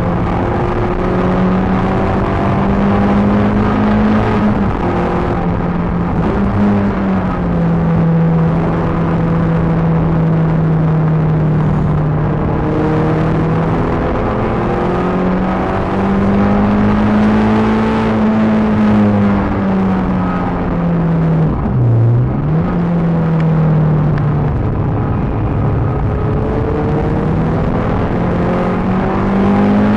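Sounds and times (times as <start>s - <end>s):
car engine at high revs: 0.0s - 29.9s.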